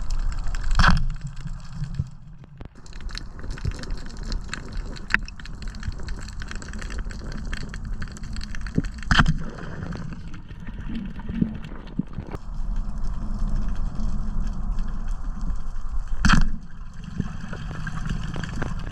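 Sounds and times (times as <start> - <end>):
low underwater rumble: 0.0 - 18.9
underwater clicks and crackles: 0.0 - 18.9.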